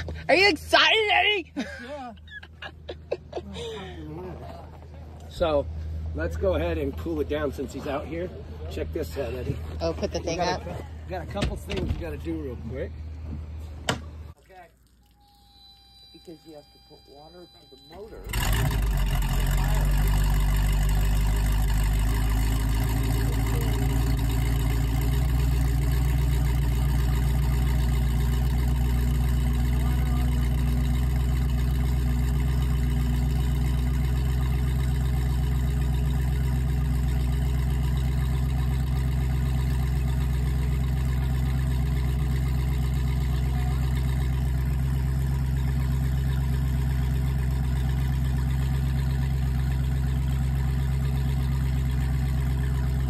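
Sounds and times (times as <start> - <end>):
boat engine idling: 0.0 - 14.4, 15.4 - 53.0.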